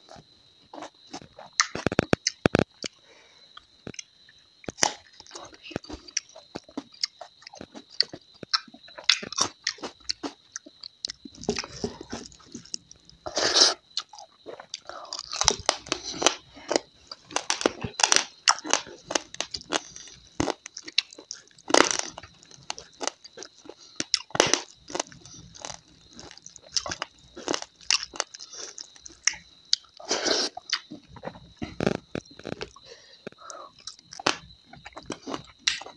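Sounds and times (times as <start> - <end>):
person chewing with crisp crunches: 0.1 - 35.9.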